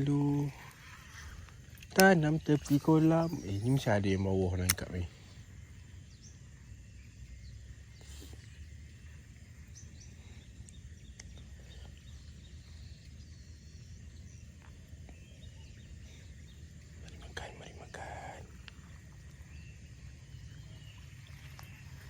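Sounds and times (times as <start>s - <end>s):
small ticks: 0.0s - 7.2s, 7.8s - 13.4s, 14.0s - 22.0s.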